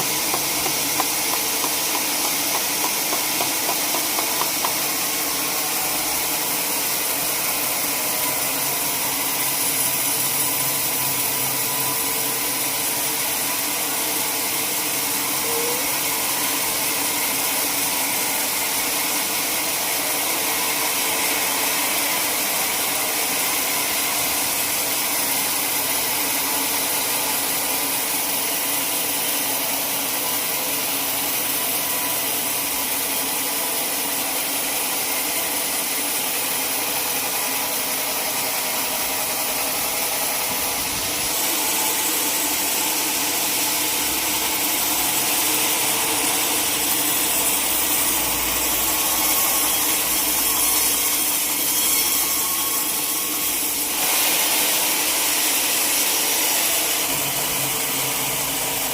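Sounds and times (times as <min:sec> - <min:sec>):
sawmill saw running: 0:00.0 - 0:58.9.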